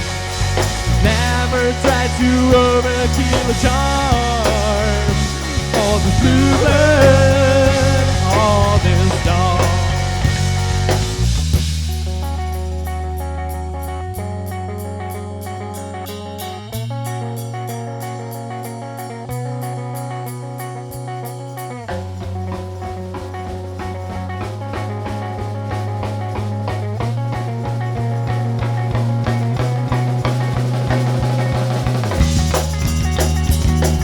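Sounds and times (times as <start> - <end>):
drum kit beat: 0.0 - 19.8, 20.9 - 34.0
bass: 0.0 - 34.0
guitar: 0.0 - 34.0.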